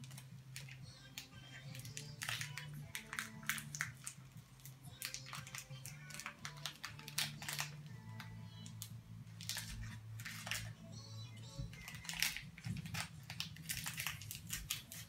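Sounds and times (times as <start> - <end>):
plastic wrapper crinkling and tearing: 0.0 - 10.7, 11.7 - 15.0
low background music: 0.0 - 15.0.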